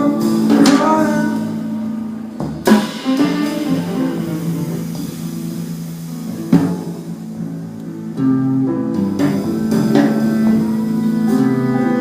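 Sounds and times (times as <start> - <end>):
light drums: 0.0 - 7.6, 8.8 - 12.0
electric guitar notes: 0.0 - 12.0.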